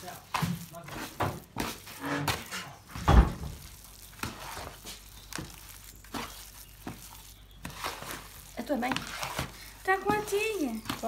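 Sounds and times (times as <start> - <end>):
wooden spoon squelching dough: 0.0 - 11.0.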